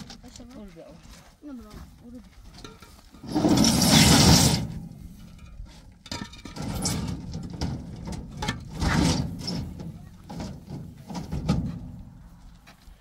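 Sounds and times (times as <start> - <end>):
concrete blocks scraping and knocking: 2.3 - 13.0.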